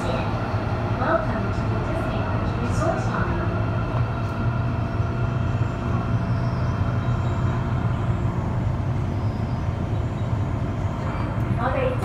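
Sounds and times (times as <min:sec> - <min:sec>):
train rumble from inside: 0:00.0 - 0:12.0.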